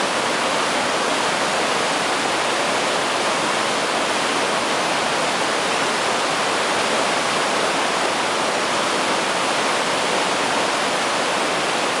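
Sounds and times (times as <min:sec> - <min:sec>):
river rapids rushing over boulders: 0:00.0 - 0:12.0.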